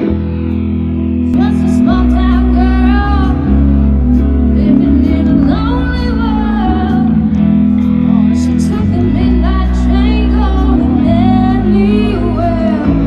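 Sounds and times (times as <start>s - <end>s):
guitar: 0.0s - 13.0s
heavy bass line: 0.0s - 13.0s.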